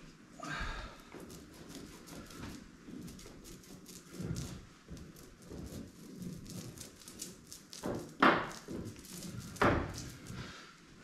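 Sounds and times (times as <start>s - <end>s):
foam roller strokes on hull: 1.2s - 10.7s.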